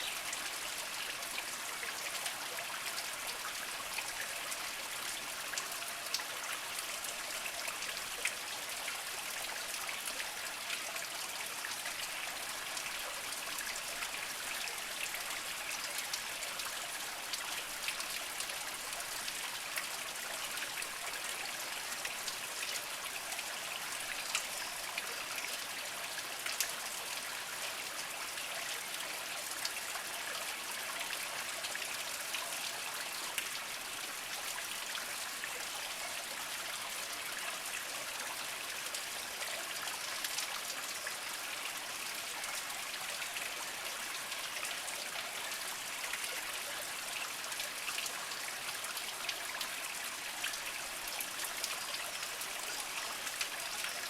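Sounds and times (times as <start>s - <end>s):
spring water trickling over rocks: 0.0s - 54.0s.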